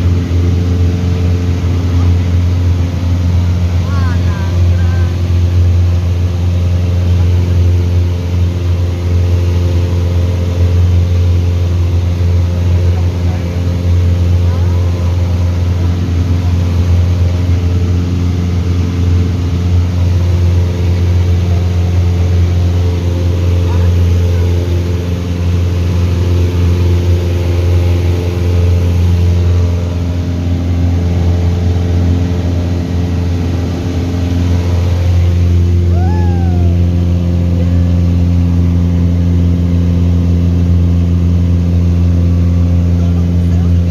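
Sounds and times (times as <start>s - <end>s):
light aircraft engine droning: 0.0s - 43.9s.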